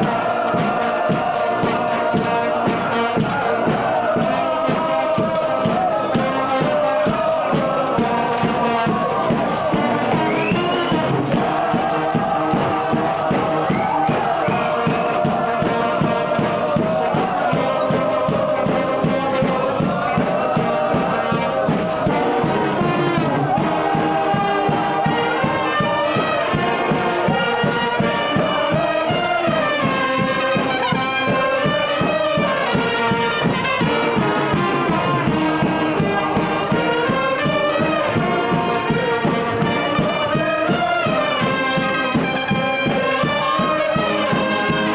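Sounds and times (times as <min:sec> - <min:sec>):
brass band playing: 0:00.0 - 0:44.9.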